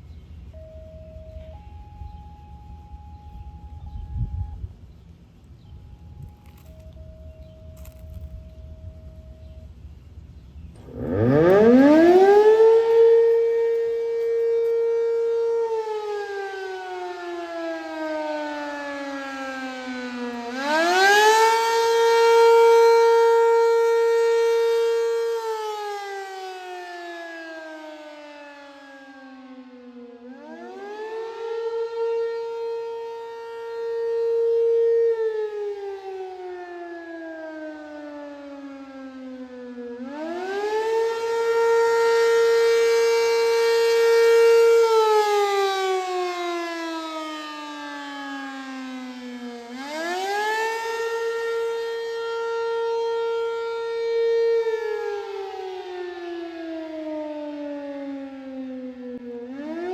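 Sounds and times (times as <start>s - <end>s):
fire siren wailing: 0.0s - 4.9s, 5.5s - 9.9s, 10.7s - 59.9s.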